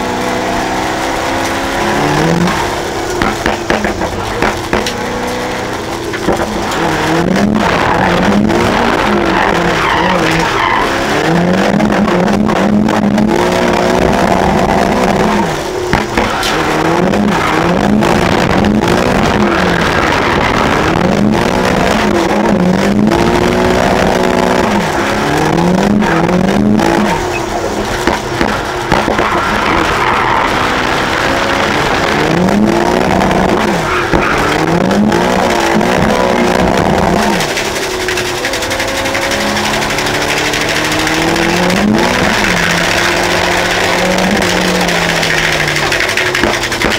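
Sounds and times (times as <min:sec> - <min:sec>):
car engine revving hard: 0:00.0 - 0:46.9
tyres squealing: 0:05.5 - 0:27.8, 0:28.8 - 0:46.4.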